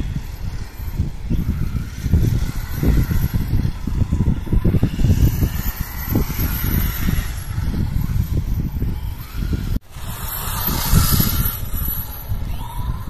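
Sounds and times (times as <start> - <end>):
electric toy car motor whine: 0.0 - 13.0
wind buffeting microphone: 0.0 - 13.0.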